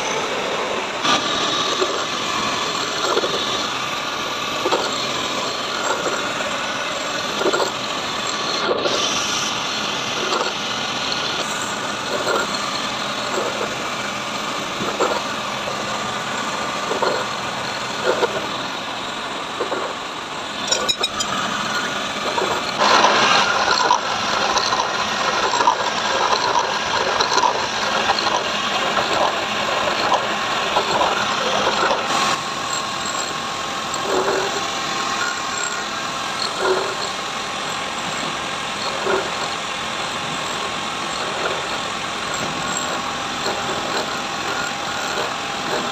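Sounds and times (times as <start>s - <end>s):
metal machining machine running: 0.0s - 45.9s.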